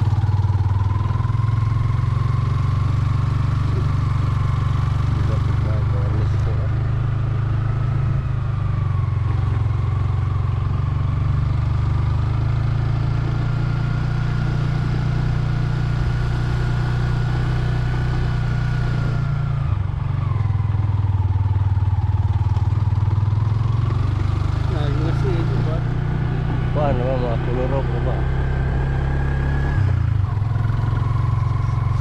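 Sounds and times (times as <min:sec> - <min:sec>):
motorcycle engine whining: 0:00.0 - 0:32.0.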